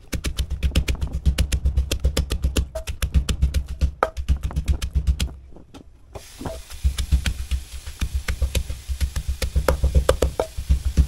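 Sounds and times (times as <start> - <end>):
pestle pounding in mortar: 0.0 - 5.4, 6.5 - 11.0.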